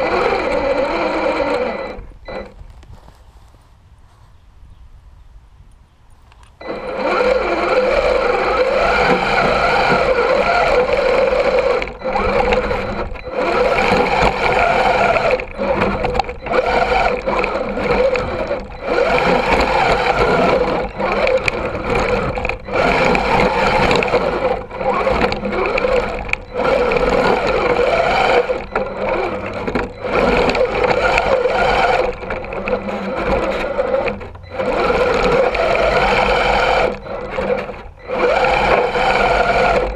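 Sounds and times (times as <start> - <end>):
electric motor whining: 0.0 - 2.8, 6.6 - 39.9.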